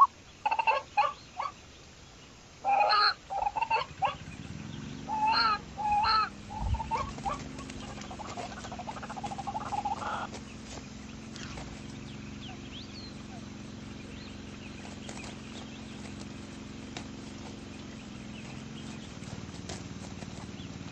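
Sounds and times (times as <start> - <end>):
pheasant clucking calls: 0.0 - 1.7, 2.6 - 20.9
steady low hum: 0.0 - 20.9.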